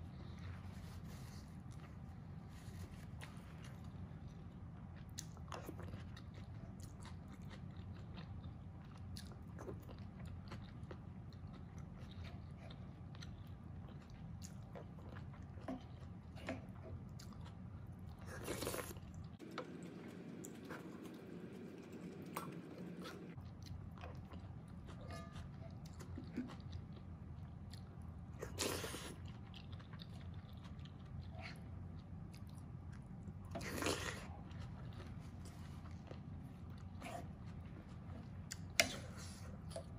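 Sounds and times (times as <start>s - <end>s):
wet chewing: 3.0s - 39.9s.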